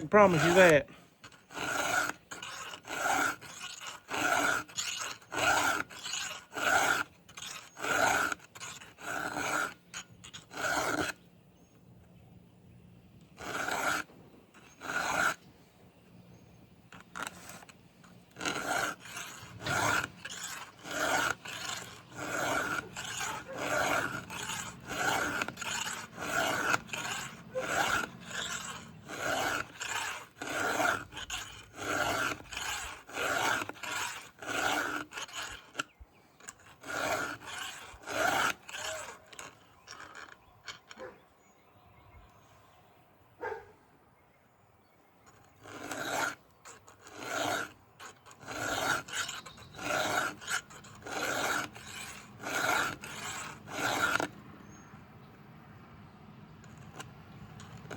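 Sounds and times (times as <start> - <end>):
file rasping on chainsaw chain: 0.0 - 11.2, 13.3 - 15.5, 16.2 - 41.1, 45.2 - 55.0, 56.6 - 57.9.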